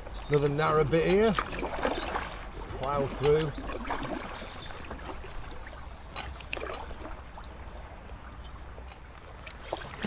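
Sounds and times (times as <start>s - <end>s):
water trickling off paddle: 0.0s - 10.0s
paddle splashing in water: 1.2s - 10.0s.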